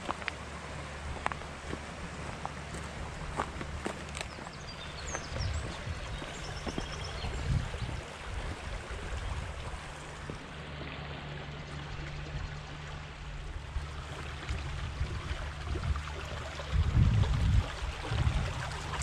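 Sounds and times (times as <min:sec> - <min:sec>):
low steady rumble: 0:00.0 - 0:19.0
river rippling over stones: 0:00.0 - 0:19.0.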